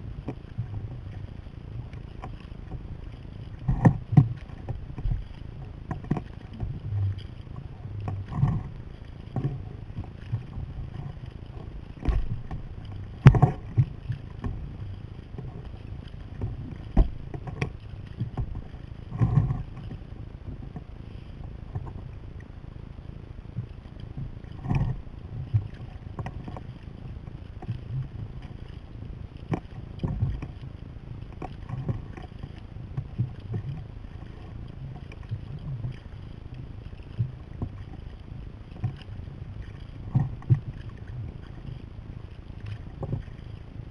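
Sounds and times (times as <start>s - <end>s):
low rumble: 0.0s - 43.9s
paddle splashing water: 0.0s - 43.9s.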